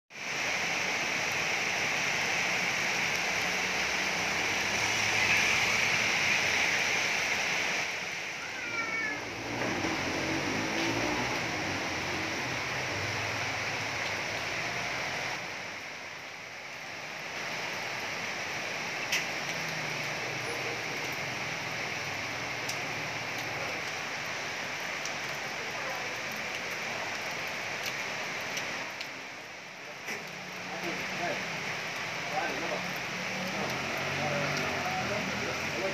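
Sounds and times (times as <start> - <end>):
heavy rain hiss: 0.1 - 35.9
car passing on wet road: 0.2 - 35.9.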